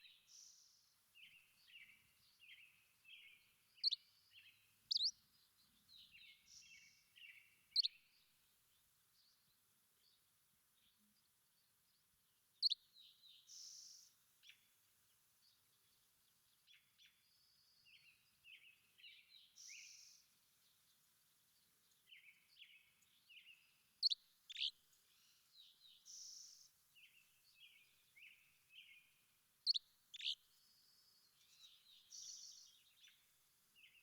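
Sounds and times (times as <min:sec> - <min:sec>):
small songbirds twittering: 0:00.0 - 0:34.0.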